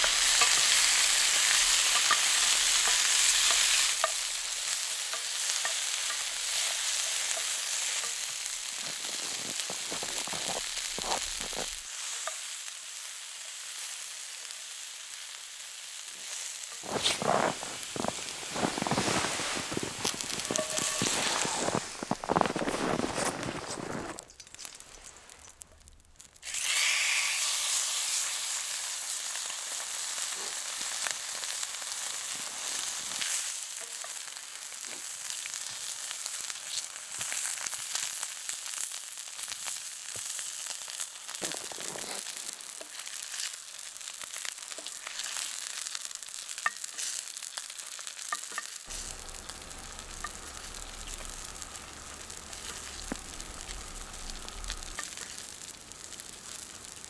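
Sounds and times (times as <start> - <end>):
sizzling hiss with crackles: 0.0 - 57.0.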